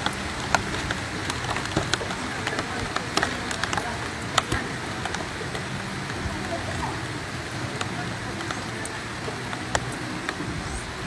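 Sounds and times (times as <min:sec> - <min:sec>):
heavy raindrops ticking on surface: 0:00.0 - 0:11.0
steady rain hissing: 0:00.0 - 0:11.0.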